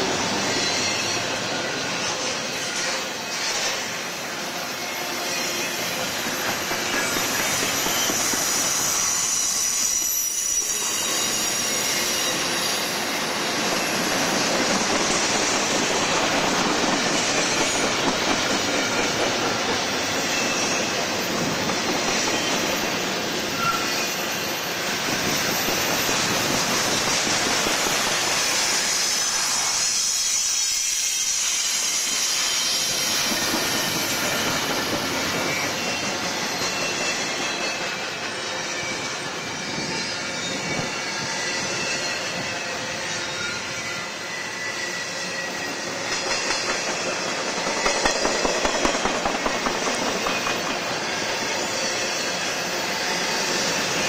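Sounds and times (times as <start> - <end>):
train wheels rolling on rail: 0.0 - 54.0
high wheel squeal: 0.2 - 54.0.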